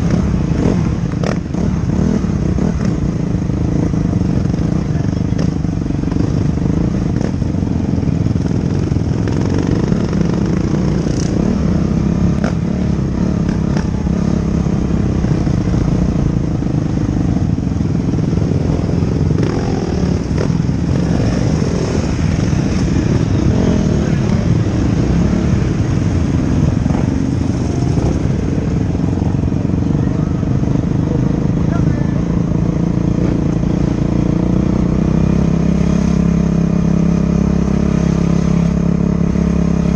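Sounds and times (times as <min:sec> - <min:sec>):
motocross bike engines droning: 0:00.0 - 0:39.9.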